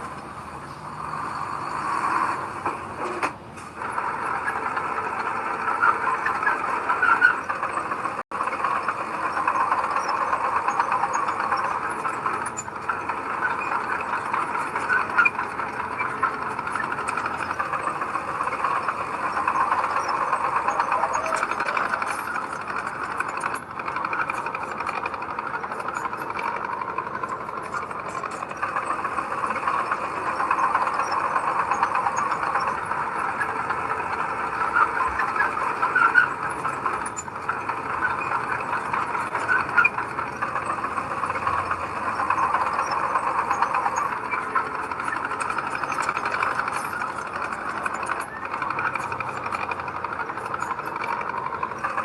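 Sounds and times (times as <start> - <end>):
earthmoving machinery running: 0.0 - 52.0.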